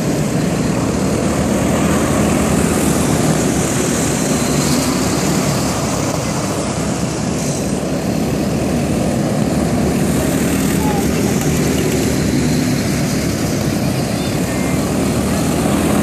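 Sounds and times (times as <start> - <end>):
small engines droning: 0.0 - 16.0.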